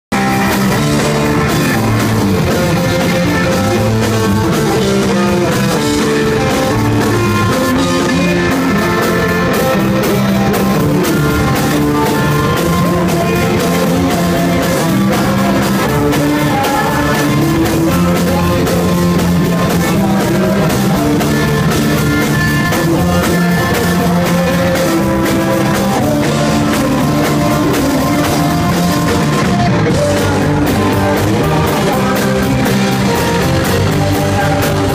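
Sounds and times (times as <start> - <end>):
man singing: 0.1 - 34.9
punk rock band playing live: 0.1 - 34.9.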